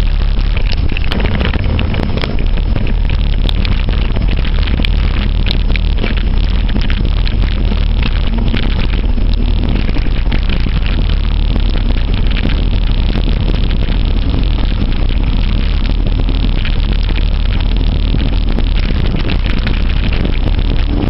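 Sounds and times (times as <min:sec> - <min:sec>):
low rumble: 0:00.0 - 0:21.0
wind buffeting microphone: 0:00.0 - 0:21.0.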